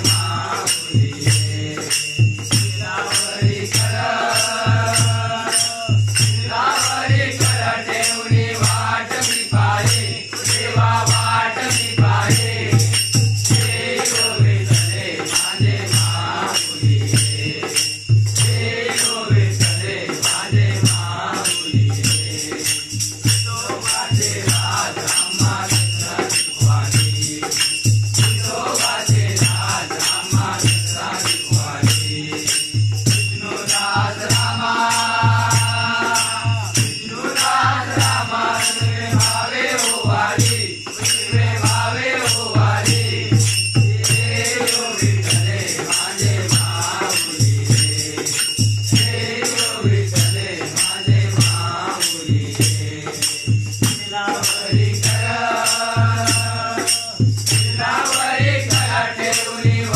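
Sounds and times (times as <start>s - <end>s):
men singing together: 0.0s - 59.9s
steady drum beat: 0.0s - 59.9s.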